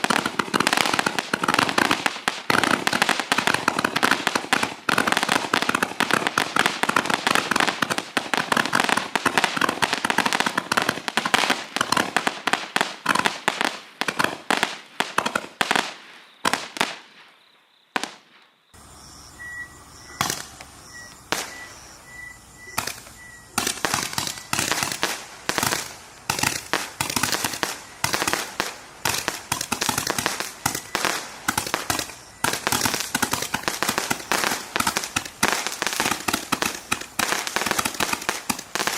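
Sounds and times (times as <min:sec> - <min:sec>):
fireworks rapid popping: 0:00.0 - 0:17.1, 0:20.1 - 0:22.0, 0:22.7 - 0:38.9.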